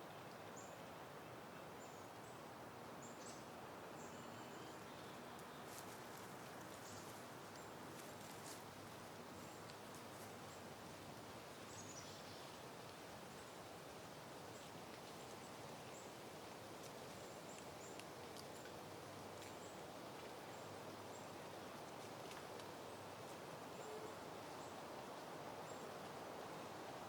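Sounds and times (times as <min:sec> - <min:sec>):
wind rustling plants: 0:00.0 - 0:27.0.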